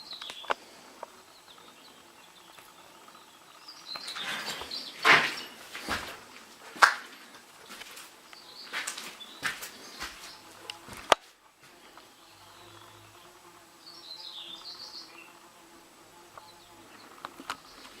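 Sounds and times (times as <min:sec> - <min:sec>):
bird chirping: 0:00.0 - 0:06.2, 0:07.6 - 0:10.9, 0:11.9 - 0:15.7, 0:16.4 - 0:18.0.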